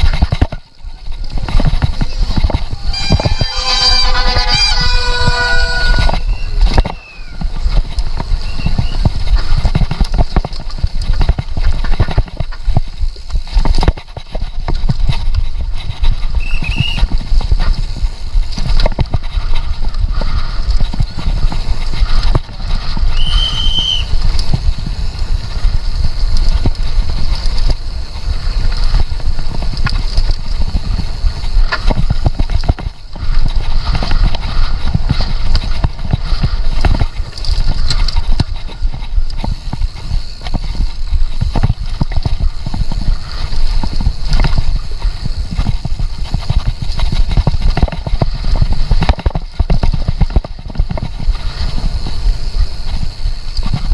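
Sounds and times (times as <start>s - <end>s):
bike knocks and rattles: 0.0s - 53.9s
wind rumble on microphone: 0.0s - 53.9s.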